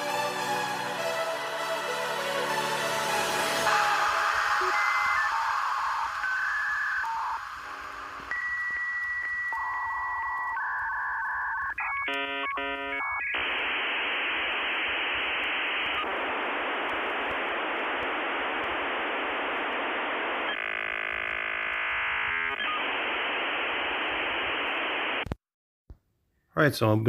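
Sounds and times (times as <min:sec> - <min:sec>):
dial-up modem connecting: 0:03.6 - 0:25.4.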